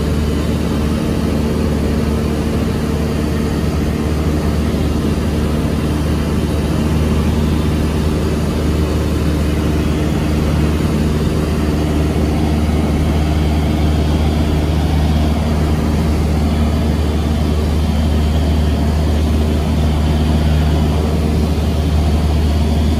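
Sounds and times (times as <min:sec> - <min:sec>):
light airplane engine droning: 0:00.0 - 0:22.9.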